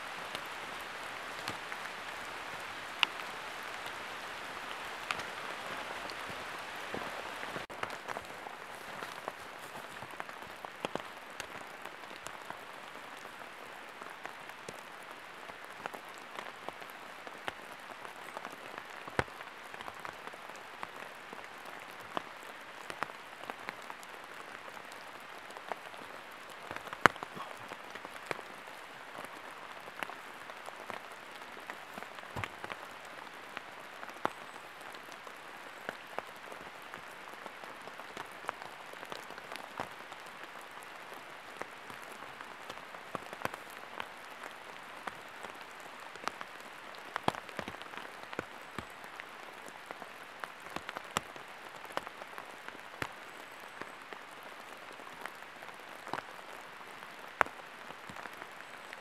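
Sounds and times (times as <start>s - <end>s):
rain pattering on foliage: 0.0s - 59.0s.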